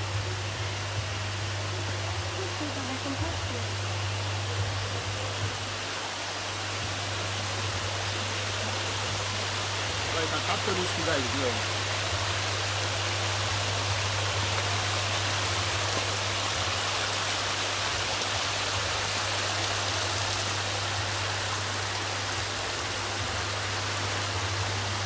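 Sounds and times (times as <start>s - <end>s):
flowing spring water: 0.0s - 25.0s
steady low hum: 0.0s - 25.0s.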